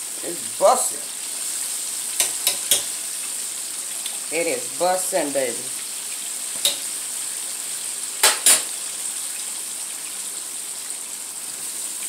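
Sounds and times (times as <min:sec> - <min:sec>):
deep-frying sizzle of grease: 0:00.0 - 0:12.0.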